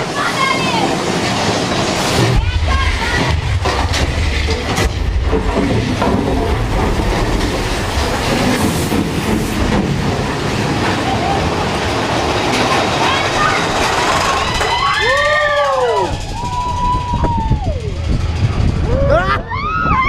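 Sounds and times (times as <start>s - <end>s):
rattling wheels: 0.0s - 20.0s
roller coaster rumble: 0.0s - 20.0s.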